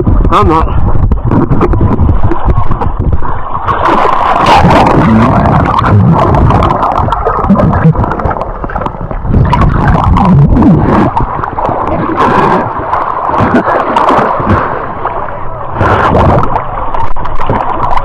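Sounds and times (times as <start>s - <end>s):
river water gurgling and splashing: 0.0s - 18.0s.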